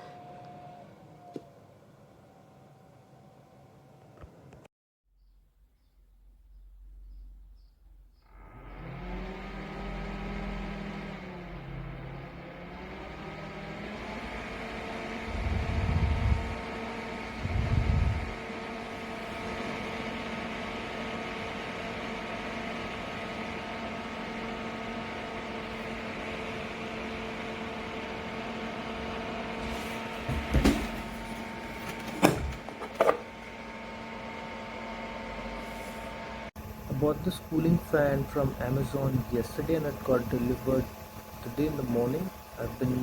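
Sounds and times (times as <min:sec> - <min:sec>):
fan motor humming: 0:00.0 - 0:04.7, 0:08.2 - 0:43.0.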